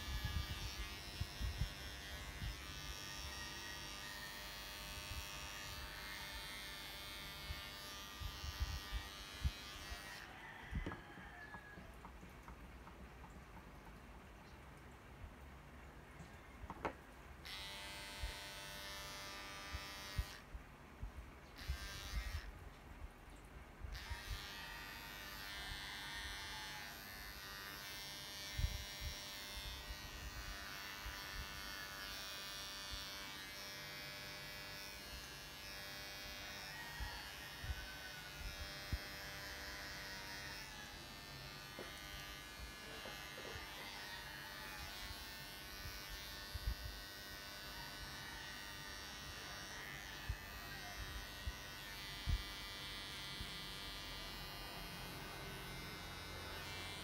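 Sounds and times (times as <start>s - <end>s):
electric clippers buzzing: 0.0s - 11.0s, 16.8s - 20.5s, 21.6s - 22.5s, 23.9s - 57.0s.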